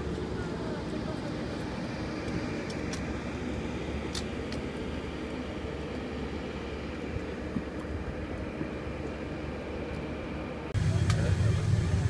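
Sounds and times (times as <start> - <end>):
aircraft engine drone: 0.0 - 12.0
low hum: 0.0 - 12.0.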